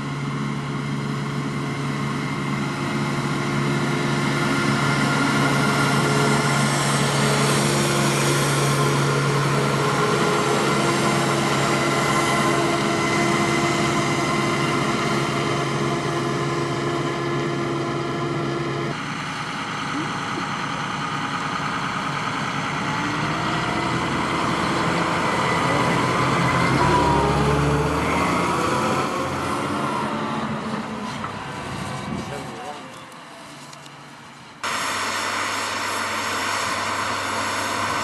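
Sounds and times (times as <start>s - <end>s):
diesel farm machinery running: 0.0s - 38.0s.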